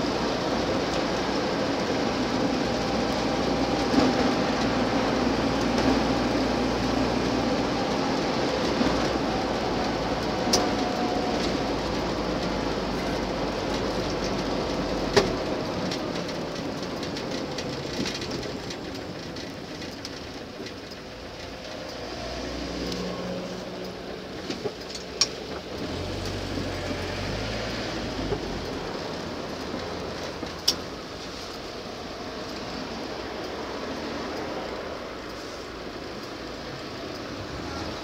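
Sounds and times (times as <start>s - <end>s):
vehicle engine and road noise: 0.0s - 38.0s.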